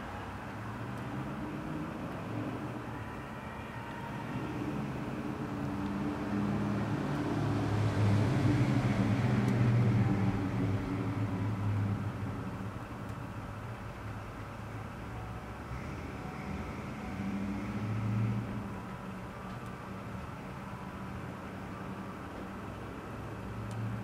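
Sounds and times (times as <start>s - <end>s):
microwave oven humming: 0.0s - 24.0s.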